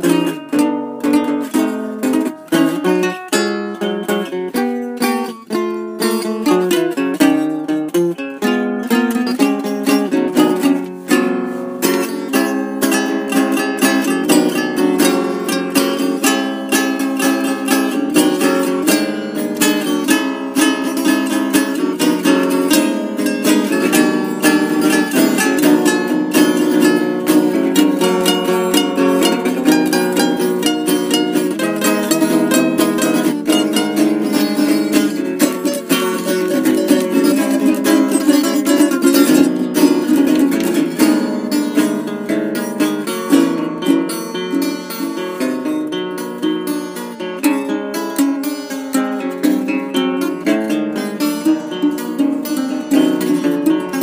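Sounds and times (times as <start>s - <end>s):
guitar and ukulele plucking: 0.0s - 54.0s.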